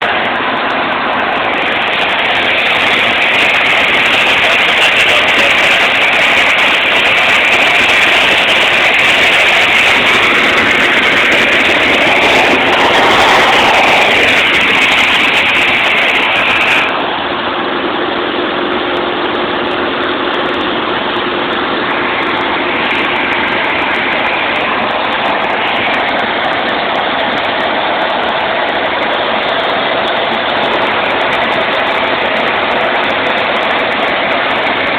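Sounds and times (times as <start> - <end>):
propeller plane engine running: 0.0 - 34.9.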